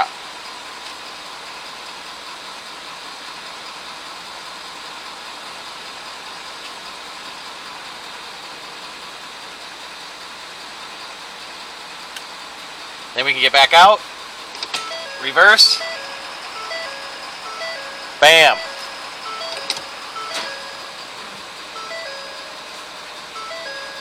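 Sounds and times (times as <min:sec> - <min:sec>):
pickup truck idling in cab: 0:00.0 - 0:24.0.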